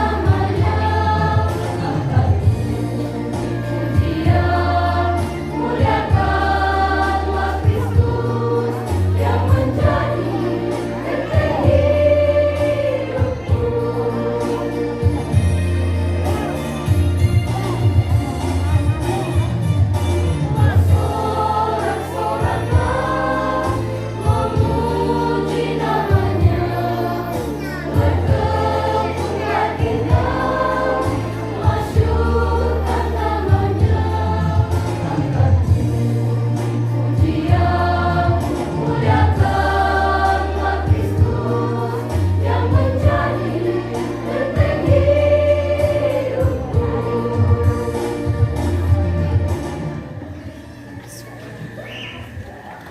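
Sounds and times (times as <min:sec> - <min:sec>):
mixed choir singing in harmony: 0:00.0 - 0:19.6, 0:20.2 - 0:51.4
steady bass line accompaniment: 0:00.0 - 0:50.6.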